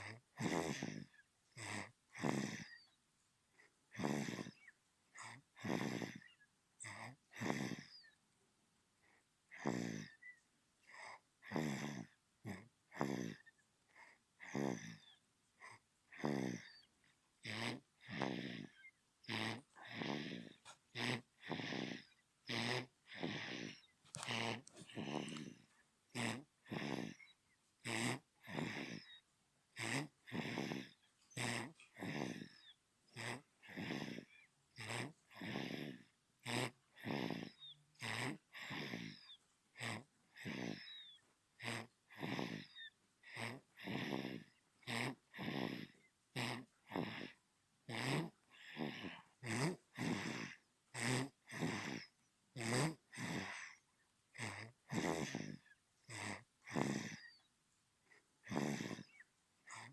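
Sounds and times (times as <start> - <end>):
baby snoring: 0.0 - 8.2, 9.0 - 57.5, 58.1 - 59.9.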